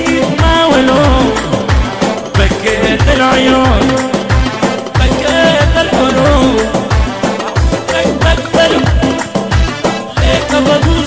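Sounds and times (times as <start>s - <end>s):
song with heavy drum beat: 0.0s - 11.0s.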